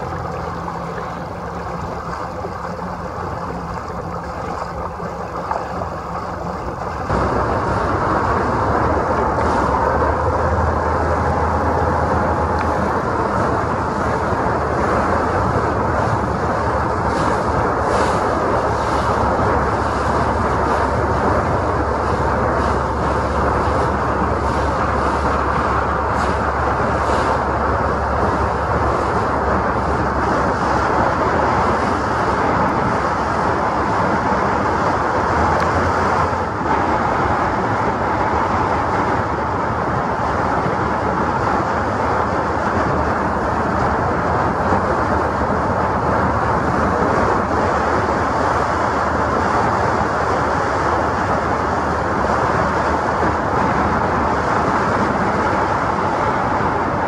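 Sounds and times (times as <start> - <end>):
motorboat engine drone: 0.0 - 57.0
water rushing: 0.0 - 57.0
wind on microphone: 0.0 - 57.0.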